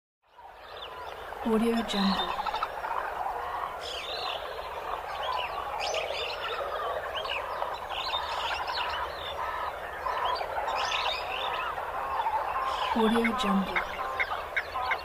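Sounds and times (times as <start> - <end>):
chicks peeping: 0.7 - 15.0.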